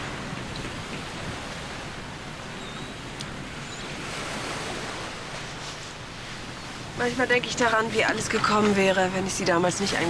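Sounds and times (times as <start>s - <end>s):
wind and waves rushing: 0.0s - 10.0s.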